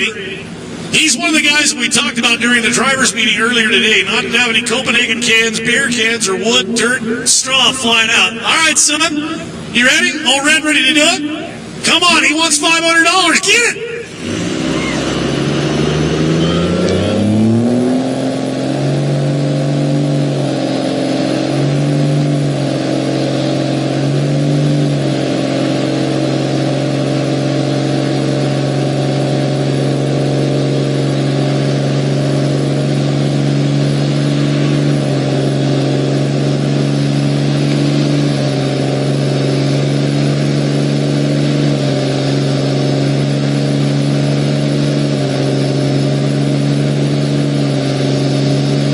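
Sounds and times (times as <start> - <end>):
diesel pickup engine revving: 0.0 - 48.9.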